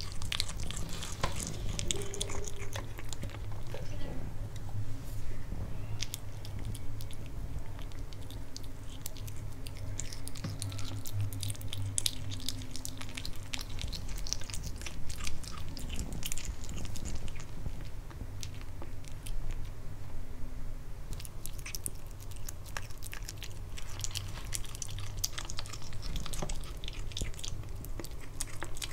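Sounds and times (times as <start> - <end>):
kitten chewing wet smacks: 0.0 - 3.9, 6.1 - 19.7, 21.1 - 28.9
low steady hum: 0.0 - 28.9.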